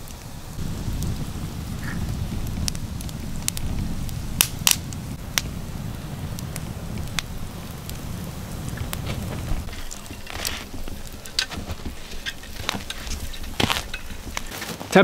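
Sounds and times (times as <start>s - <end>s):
low rumble: 0.0s - 14.5s
campfire crackling and popping: 0.0s - 15.0s.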